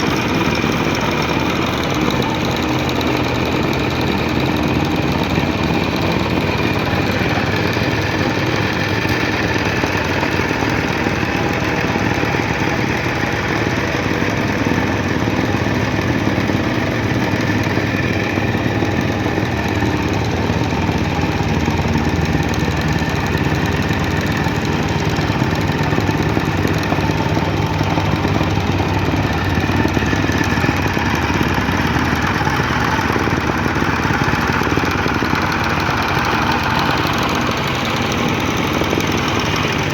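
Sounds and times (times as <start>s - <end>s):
soil compactor running: 0.0s - 39.9s.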